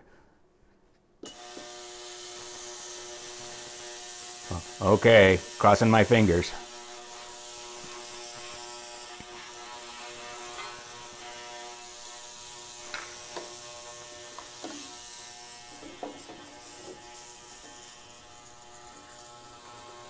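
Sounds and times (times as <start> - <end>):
ultrasonic cleaner buzzing hiss: 1.2 - 20.0.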